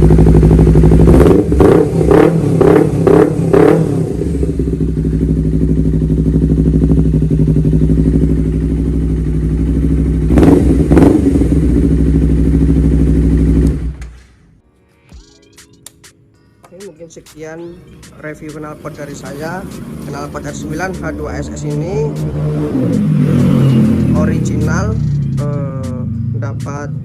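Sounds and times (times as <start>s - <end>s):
motorcycle engine idling: 0.0s - 14.0s, 18.2s - 26.9s
motorcycle engine revving: 0.0s - 14.2s, 18.2s - 27.0s.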